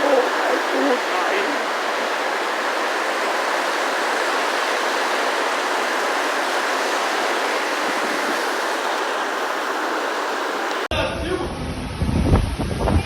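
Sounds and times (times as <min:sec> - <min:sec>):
heavy rain pouring: 0:00.0 - 0:10.9.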